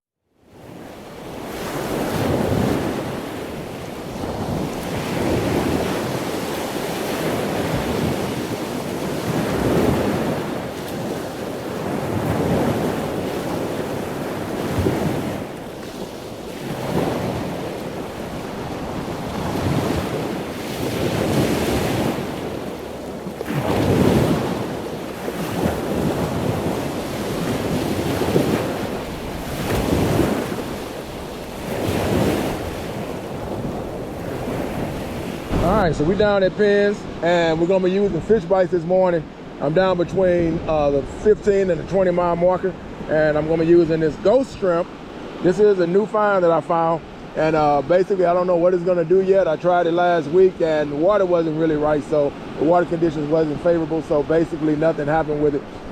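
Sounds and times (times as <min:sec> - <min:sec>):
surf breaking on beach: 0:00.5 - 0:55.9
wind buffeting microphone: 0:00.6 - 0:45.4.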